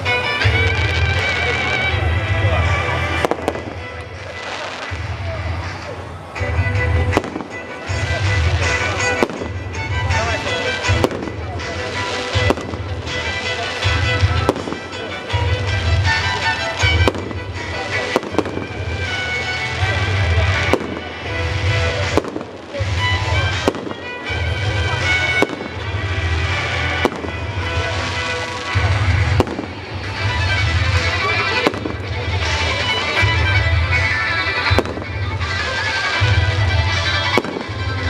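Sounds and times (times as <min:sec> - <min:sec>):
firework bangs: 0:00.0 - 0:38.0.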